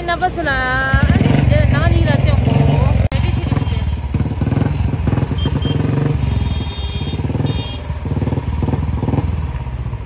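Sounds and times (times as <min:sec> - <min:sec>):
motorcycle engine idling: 0:00.2 - 0:10.0.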